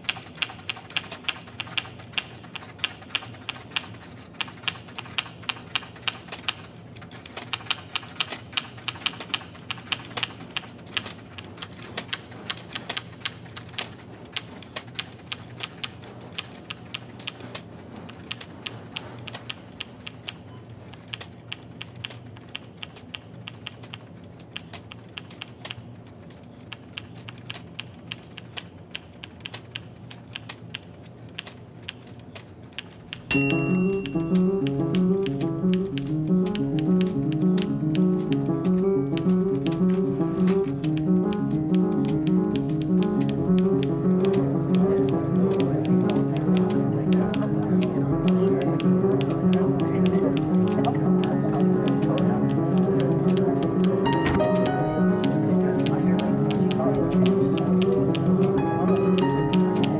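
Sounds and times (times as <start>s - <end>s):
typewriter keys clacking: 0.0s - 59.9s.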